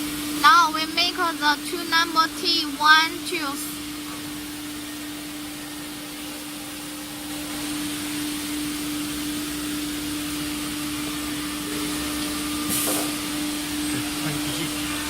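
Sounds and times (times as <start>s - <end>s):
router machinery hum: 0.0s - 15.0s.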